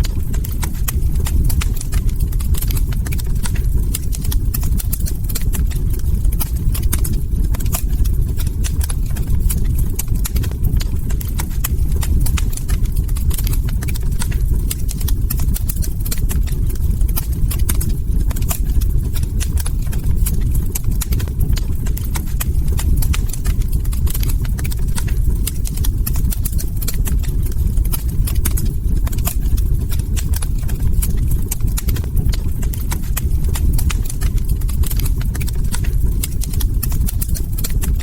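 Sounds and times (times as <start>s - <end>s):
log fire crackling and popping: 0.0s - 38.0s.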